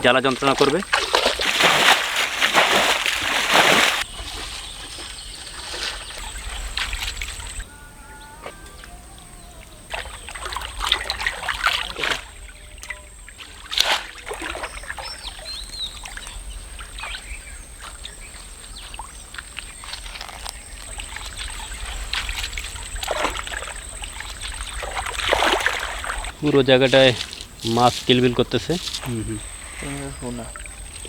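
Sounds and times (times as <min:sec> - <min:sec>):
shallow water splashing: 0:00.0 - 0:07.8, 0:08.4 - 0:31.0.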